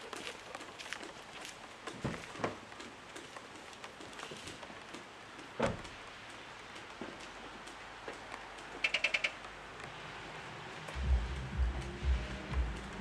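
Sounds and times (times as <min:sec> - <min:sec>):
light rain dripping: 0:00.0 - 0:13.0.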